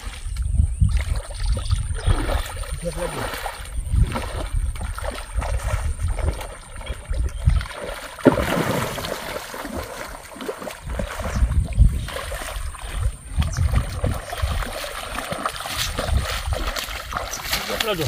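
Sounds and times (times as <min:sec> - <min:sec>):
water sloshing and splashing: 0:00.0 - 0:18.0
fish splashing: 0:01.0 - 0:18.0.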